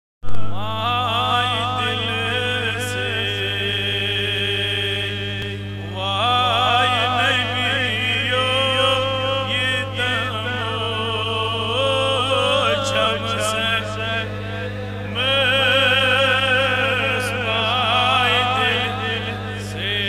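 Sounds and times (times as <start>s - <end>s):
low hum: 0.2s - 20.0s
man singing devotional song: 0.2s - 20.0s.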